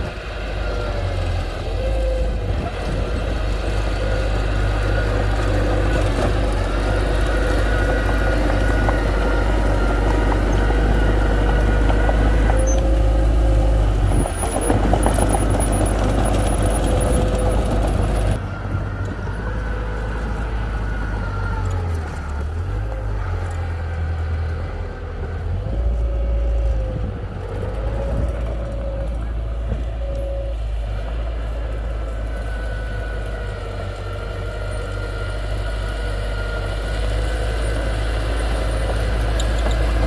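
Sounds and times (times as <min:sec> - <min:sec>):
diesel engine rumbling: 0:00.0 - 0:40.0
faint engine whine: 0:00.0 - 0:40.0.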